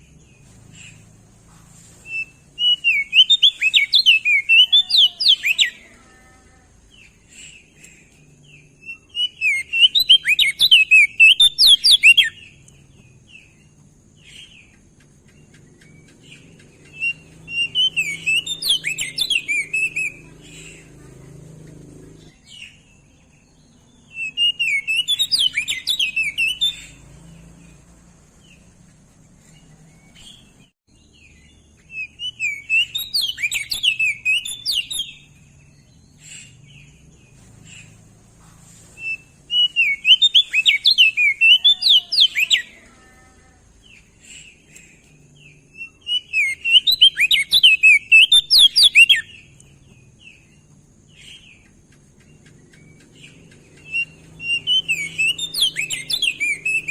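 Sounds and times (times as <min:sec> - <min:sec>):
bird warbling song: 0:00.0 - 0:56.9.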